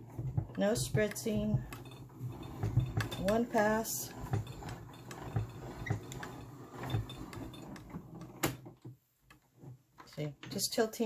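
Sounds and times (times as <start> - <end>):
embossing machine clicks and knocks: 0.0 - 10.7.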